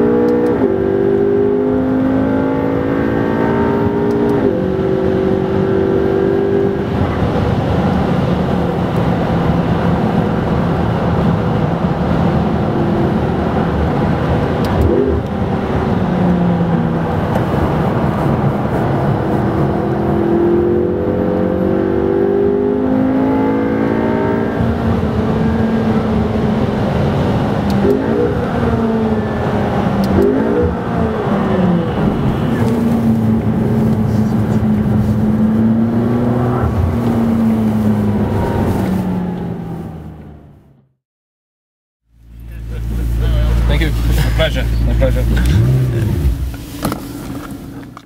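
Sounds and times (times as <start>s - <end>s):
car engine revving in cabin: 0.0s - 40.9s, 42.2s - 48.0s
road noise: 0.0s - 41.0s, 42.0s - 48.0s.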